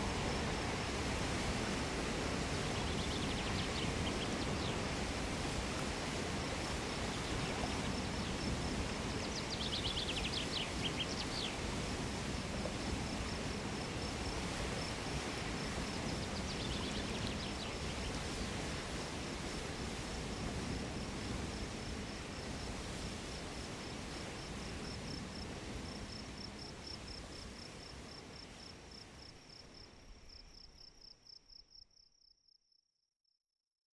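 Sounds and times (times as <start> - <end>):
mountain torrent rushing: 0.0 - 28.9.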